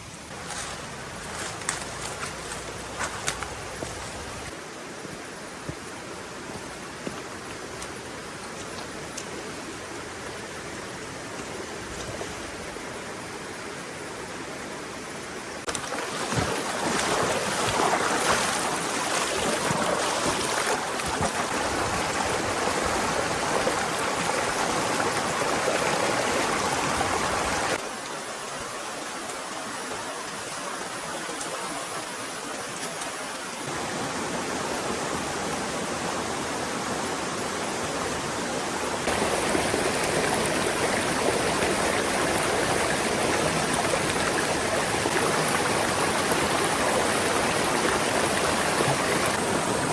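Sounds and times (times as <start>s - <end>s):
stream gurgling: 0.0s - 49.9s.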